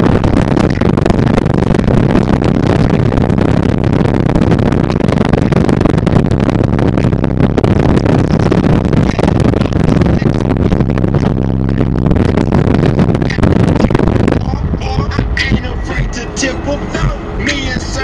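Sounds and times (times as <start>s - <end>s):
bass-heavy music through subwoofers: 0.0s - 18.0s.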